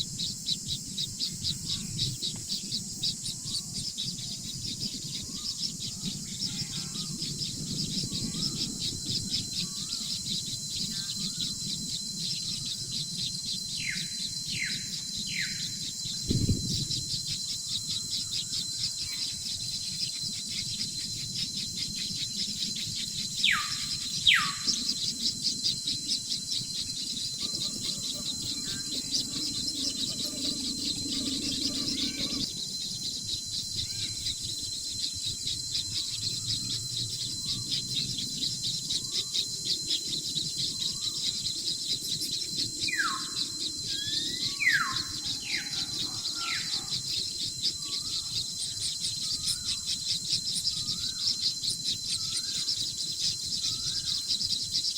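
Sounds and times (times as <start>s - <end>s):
faint steady high tone: 0.0s - 54.9s
high-pitched insect chirping: 0.0s - 54.9s
falling bird whistles: 1.6s - 54.9s.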